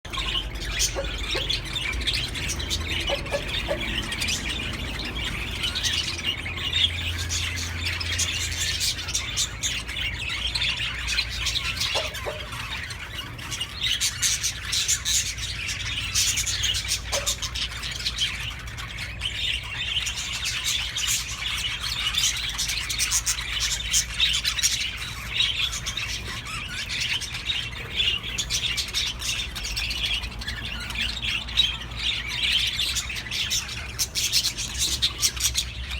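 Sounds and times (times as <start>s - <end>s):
bird chirps: 0.1s - 35.9s
bird squawks: 0.1s - 35.9s
budgerigars chattering: 0.1s - 35.9s.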